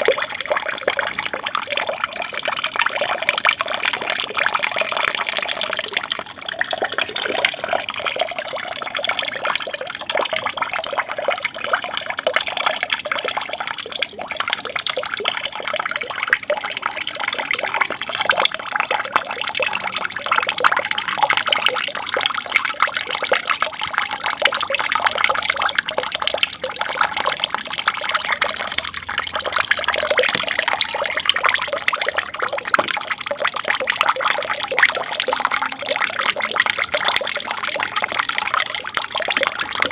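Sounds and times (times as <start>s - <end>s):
small waterfall trickling: 0.0s - 39.9s.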